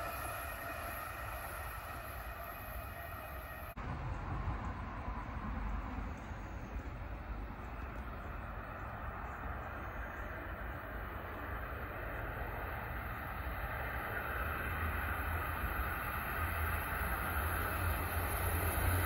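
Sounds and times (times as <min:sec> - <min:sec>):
distant train low rumble: 0:00.0 - 0:19.0
train rumbling with high tones: 0:00.0 - 0:19.0.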